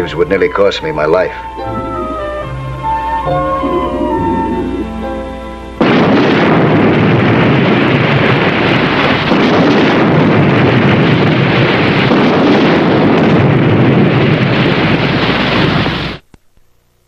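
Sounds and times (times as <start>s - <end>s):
underwater explosion rumble: 1.6s - 16.0s.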